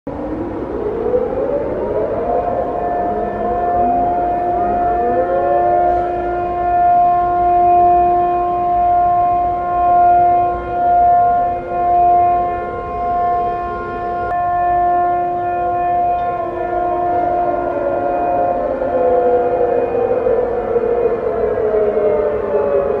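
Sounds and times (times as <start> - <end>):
air raid sirens wailing: 0.1 - 23.0.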